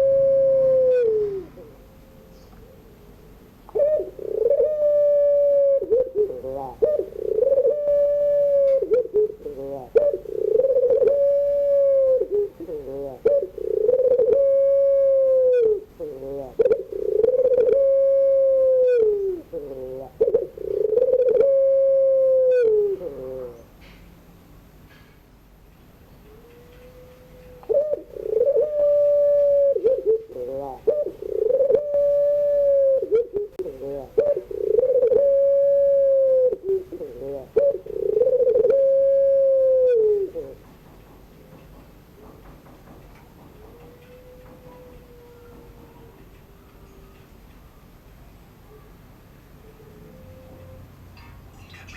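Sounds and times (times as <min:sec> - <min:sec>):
dove cooing: 0:00.0 - 0:24.0, 0:26.2 - 0:41.3, 0:43.2 - 0:47.1, 0:49.5 - 0:51.9.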